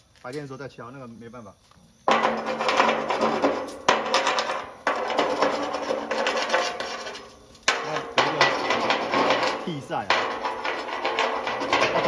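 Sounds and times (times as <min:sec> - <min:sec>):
scraping edge on metal: 0:02.1 - 0:12.0.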